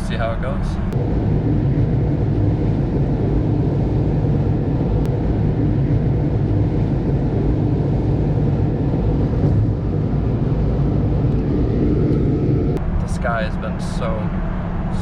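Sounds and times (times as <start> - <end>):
car road noise and engine hum: 0.0 - 15.0.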